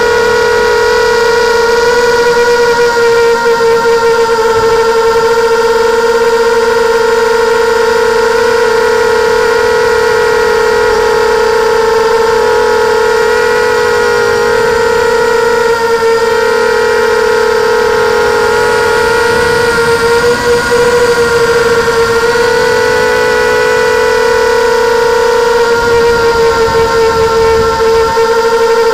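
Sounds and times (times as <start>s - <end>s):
drone propellers whining: 0.0s - 28.9s.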